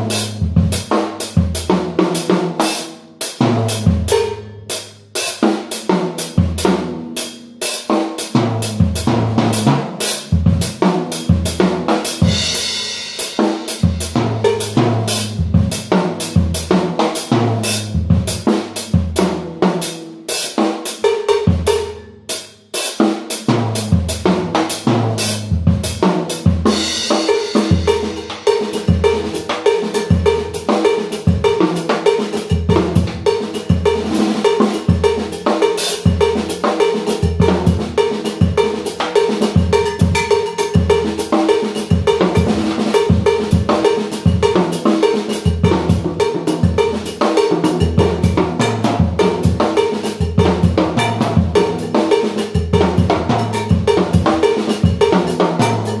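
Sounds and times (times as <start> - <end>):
drum kit played with sticks: 0.0 - 56.0.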